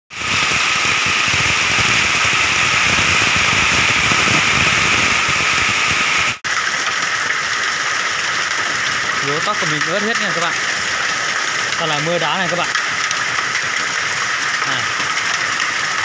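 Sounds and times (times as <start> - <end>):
hail and rain on a roof: 0.1 - 16.0.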